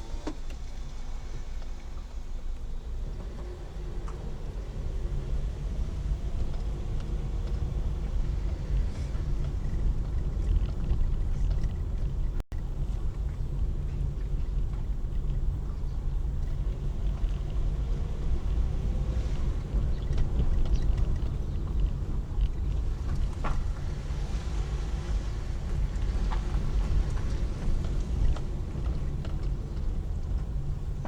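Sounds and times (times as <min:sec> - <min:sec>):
car rumbling from inside cabin: 0:00.0 - 0:31.0.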